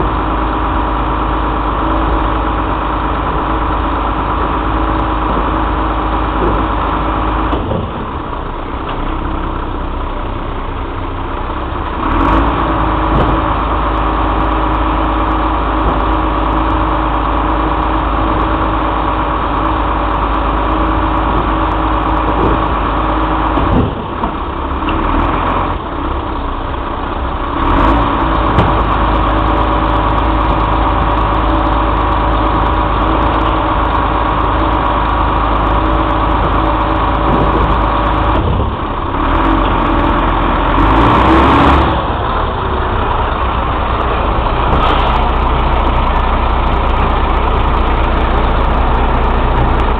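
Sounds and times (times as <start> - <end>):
diesel truck engine running: 0.0 - 49.9.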